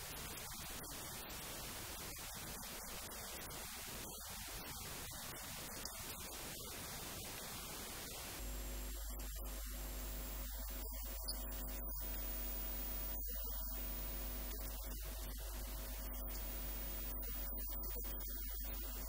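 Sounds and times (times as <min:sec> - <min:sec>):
background hiss: 0:00.0 - 0:19.0
electrical mains hum: 0:00.0 - 0:19.0.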